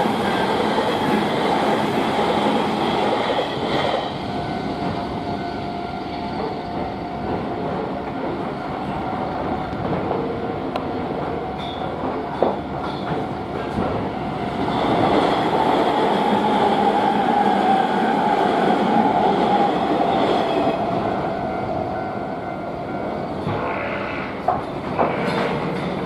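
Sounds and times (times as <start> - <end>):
electric train passing: 0.0 - 26.0.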